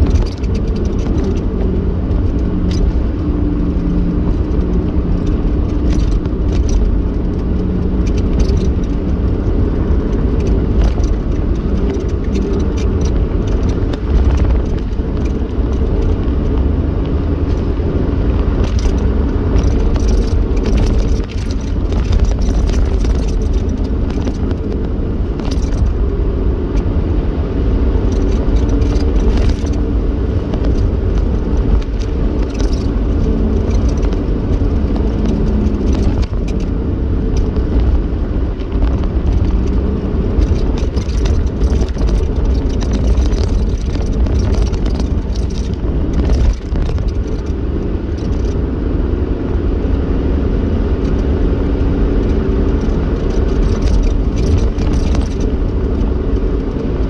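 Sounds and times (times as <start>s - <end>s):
small clicks and rattles: 0.0s - 27.0s, 27.9s - 48.7s, 50.9s - 57.0s
low rumble of engine and tyres: 0.0s - 57.0s.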